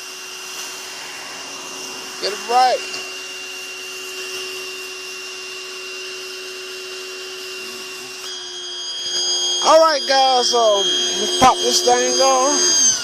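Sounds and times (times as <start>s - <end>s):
pressure washer motor whine: 0.0s - 13.0s.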